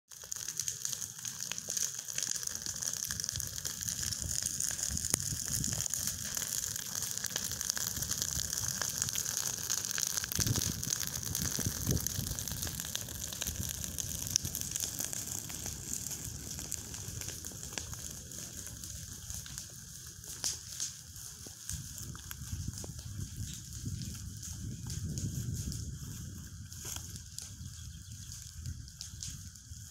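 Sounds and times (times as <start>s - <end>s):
dry branches crackling and popping: 0.1s - 29.9s
flames hissing: 0.2s - 29.9s.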